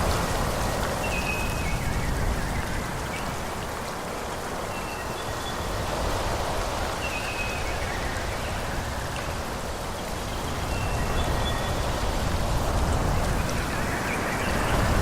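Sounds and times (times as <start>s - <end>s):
wind rushing through forest: 0.0s - 15.0s.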